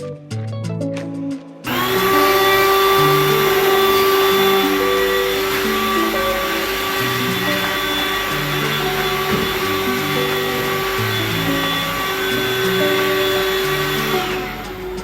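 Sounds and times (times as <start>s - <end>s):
background music: 0.0s - 15.0s
handheld vacuum cleaner running: 1.7s - 15.0s.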